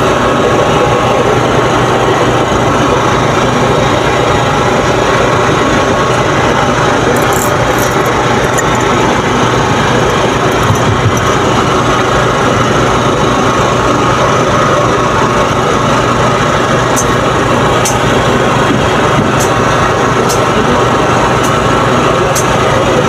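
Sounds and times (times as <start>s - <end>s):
loud engine-like drone: 0.0s - 23.0s.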